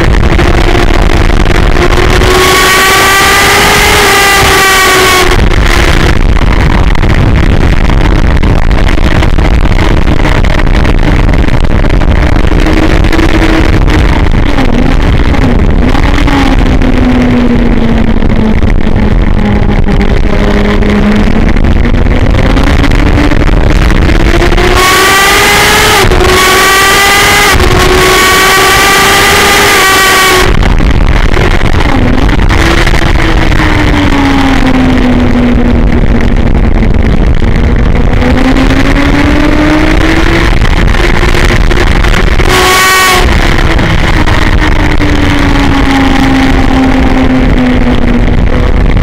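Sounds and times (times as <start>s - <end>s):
motorcycle engine revving: 0.0s - 49.0s
wind rush on microphone: 0.0s - 49.0s.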